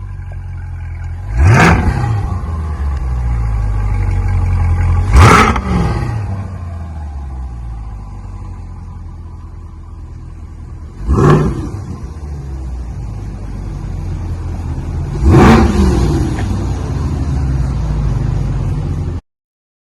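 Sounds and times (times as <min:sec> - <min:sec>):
car engine idling and revving: 0:00.0 - 0:19.2.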